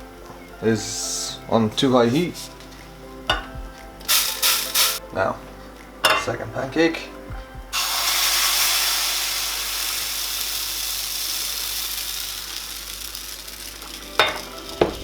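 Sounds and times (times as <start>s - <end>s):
batter sizzling in frying pan: 0.0s - 5.0s, 7.7s - 15.0s.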